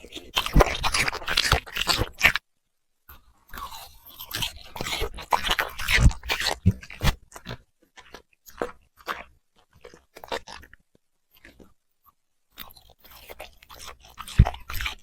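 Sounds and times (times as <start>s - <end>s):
puppy chewing crunchy food: 0.0s - 2.4s, 3.1s - 11.8s, 12.5s - 15.0s.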